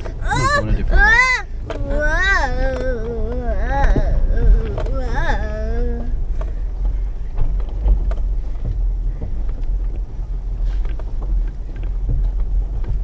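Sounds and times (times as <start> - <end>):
vehicle driving over rough ground: 0.0 - 13.0.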